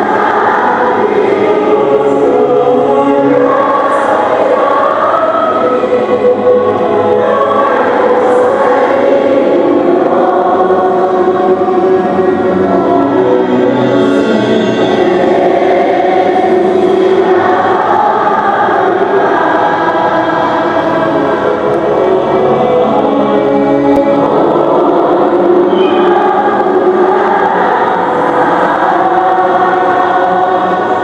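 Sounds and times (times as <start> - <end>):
choir singing sustained notes: 0.0 - 31.0.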